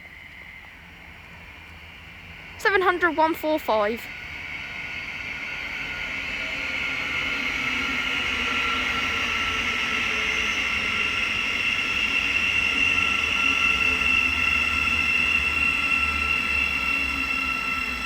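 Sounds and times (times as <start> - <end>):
train high-pitched whine: 0.0 - 18.0
train low rumble: 0.0 - 18.0.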